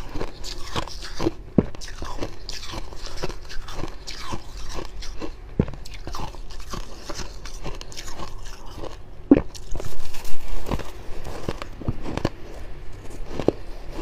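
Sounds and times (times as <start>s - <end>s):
crunching and chewing frost: 0.0s - 14.0s.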